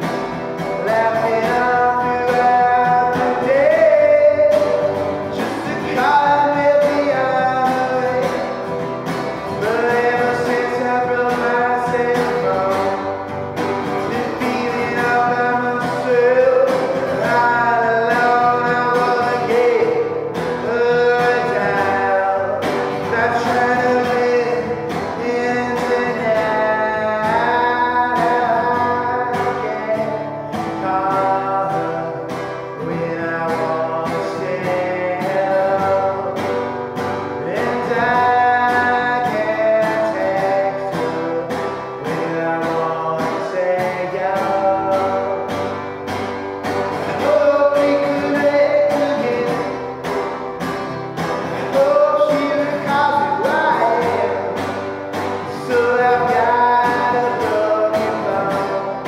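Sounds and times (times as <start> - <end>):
acoustic guitar strumming: 0.0 - 59.0
man singing with reverb: 0.0 - 59.0.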